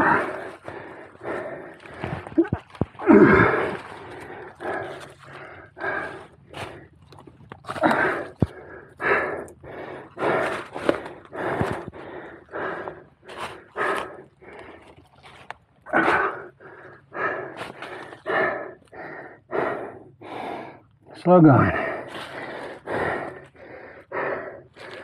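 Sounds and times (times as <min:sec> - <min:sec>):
man breathing hard: 0:00.0 - 0:02.3, 0:03.0 - 0:07.0, 0:07.7 - 0:15.2, 0:15.9 - 0:25.0.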